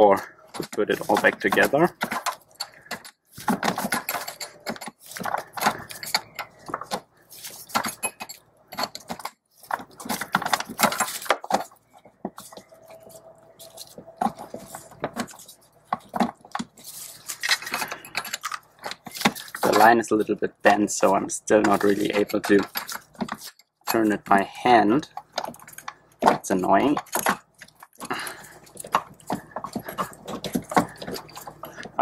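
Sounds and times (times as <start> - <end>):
wrench clinking and scraping on nut: 0.0 - 32.0.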